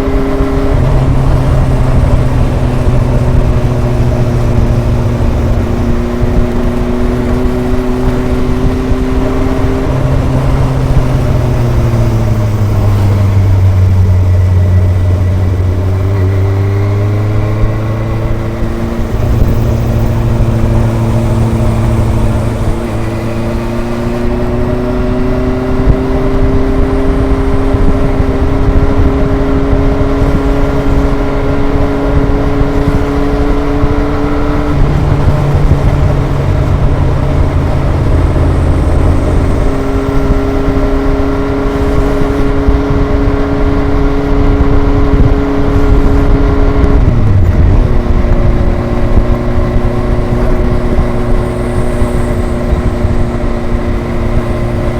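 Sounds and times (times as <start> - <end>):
motorcycle engine and exhaust: 0.0 - 54.9
wind rumble on microphone: 0.0 - 54.9.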